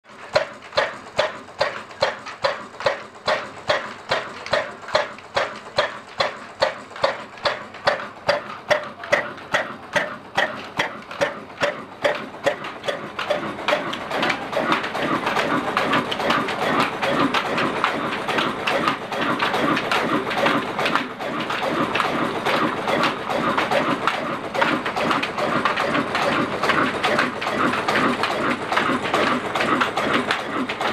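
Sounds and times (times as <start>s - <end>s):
diesel engine exhaust puffs: 0.0s - 30.9s
engine and flywheel clatter: 0.0s - 30.9s.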